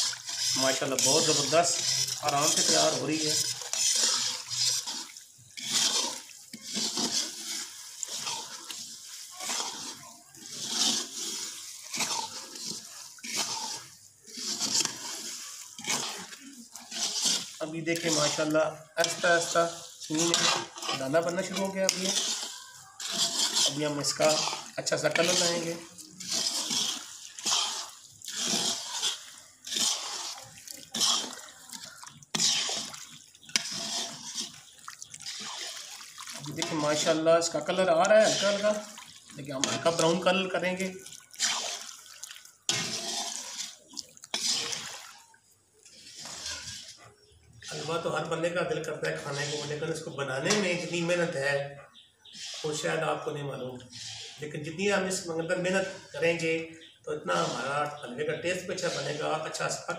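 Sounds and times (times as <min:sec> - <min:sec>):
metal spoon scraping iron pan: 0:00.0 - 0:41.9, 0:42.7 - 0:45.0, 0:45.9 - 0:51.4, 0:52.3 - 0:53.3, 0:53.9 - 0:59.9
sugar and ghee sizzling: 0:00.0 - 0:59.9.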